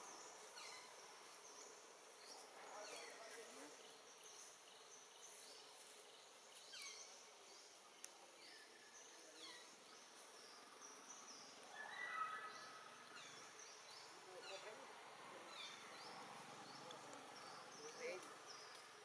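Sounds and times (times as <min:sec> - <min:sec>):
forest ambience: 0:00.0 - 0:19.0.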